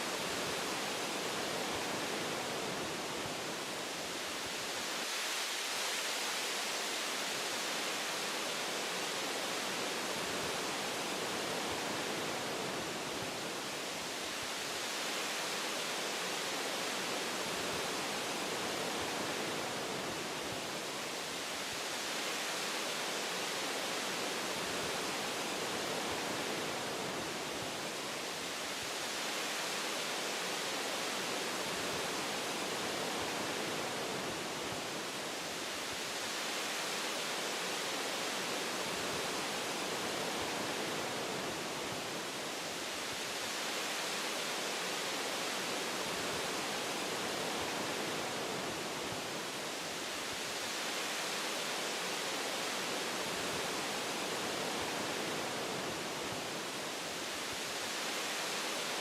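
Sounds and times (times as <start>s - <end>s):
wind through forest branches: 0.0s - 59.0s.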